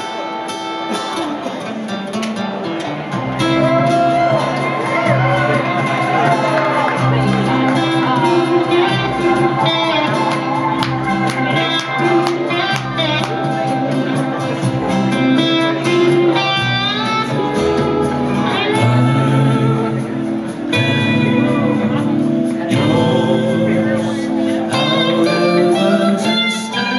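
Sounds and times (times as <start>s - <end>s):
acoustic guitar: 0.0s - 26.9s
electric guitar: 0.0s - 26.9s
low bass notes: 3.2s - 26.9s.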